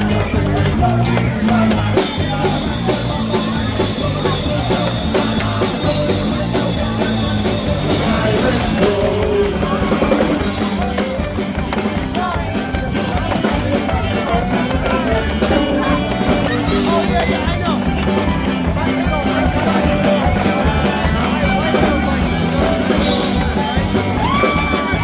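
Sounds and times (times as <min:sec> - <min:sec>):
drum kit: 0:00.0 - 0:25.0
person singing: 0:00.0 - 0:25.0
rock band playing live: 0:00.0 - 0:25.0.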